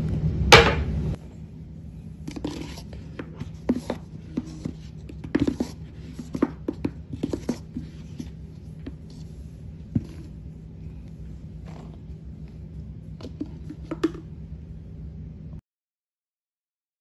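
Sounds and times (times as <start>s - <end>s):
faint low hum: 0.0s - 15.6s.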